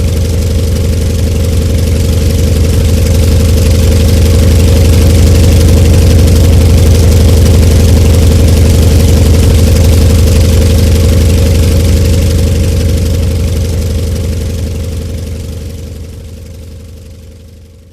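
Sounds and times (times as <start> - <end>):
radial aircraft engine running: 0.0 - 17.9.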